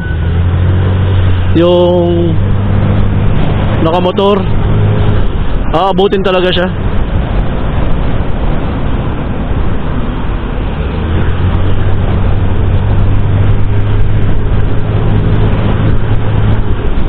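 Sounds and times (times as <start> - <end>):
road noise: 0.0 - 17.0
wind rush: 0.0 - 17.0.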